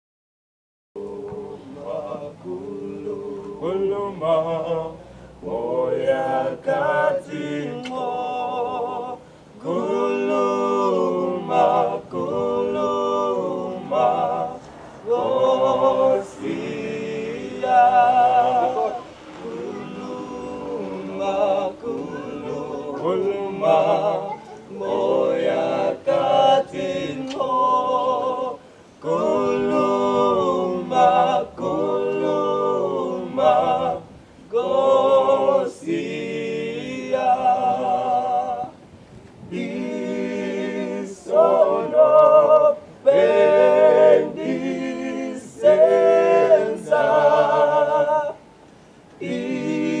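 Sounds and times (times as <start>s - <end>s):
men singing a cappella: 1.0s - 50.0s.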